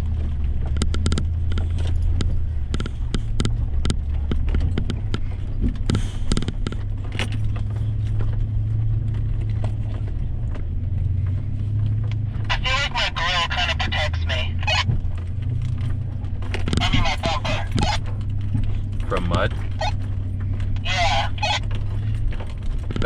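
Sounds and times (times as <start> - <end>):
vehicle knocks and rattles: 0.0 - 12.5, 14.9 - 16.9, 17.7 - 20.8, 21.6 - 23.0
truck engine low hum: 0.0 - 23.0.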